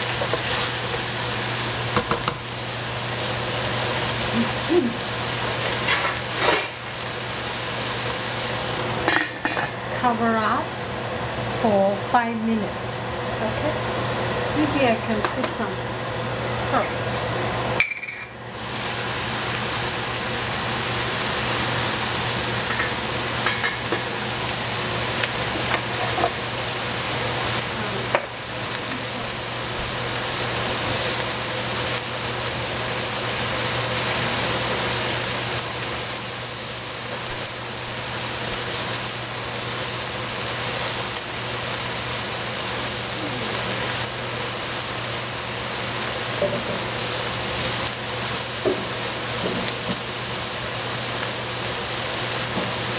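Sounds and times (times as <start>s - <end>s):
food sizzling in a frying pan: 0.0s - 52.9s.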